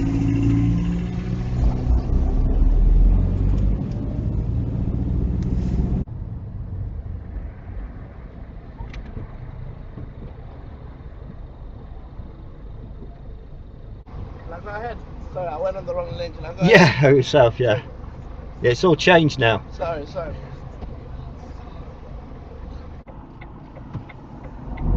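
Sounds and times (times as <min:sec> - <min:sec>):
car engine hum: 0:00.0 - 0:24.9
road noise inside car: 0:00.0 - 0:24.9.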